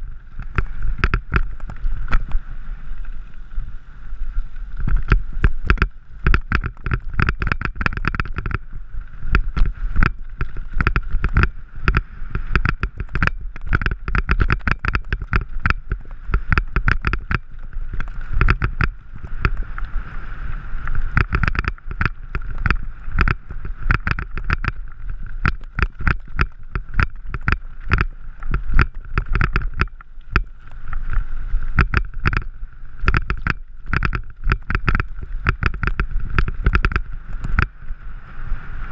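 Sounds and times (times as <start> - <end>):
bike tyres rattling over stones: 0.0 - 38.1
wind and vibration rumble: 0.0 - 38.9.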